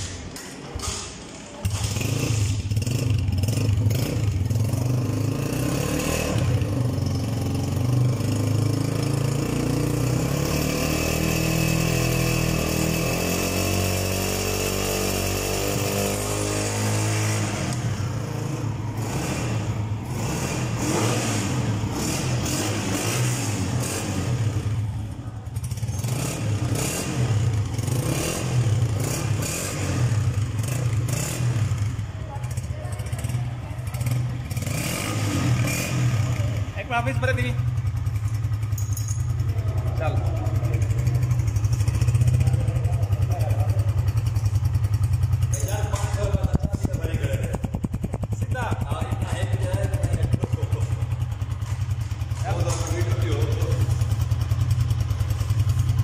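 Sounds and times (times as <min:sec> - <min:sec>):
motorcycle engine running: 0:01.6 - 0:56.0.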